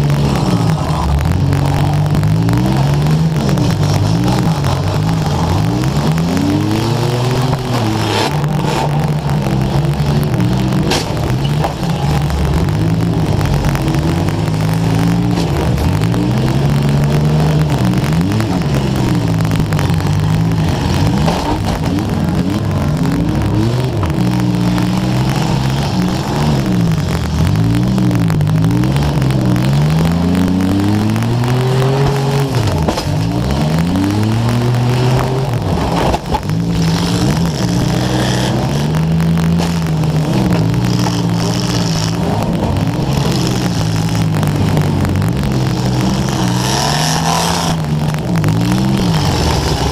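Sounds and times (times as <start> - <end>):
car engine revving: 0.0 - 49.9
crackling microphone static: 0.0 - 49.9.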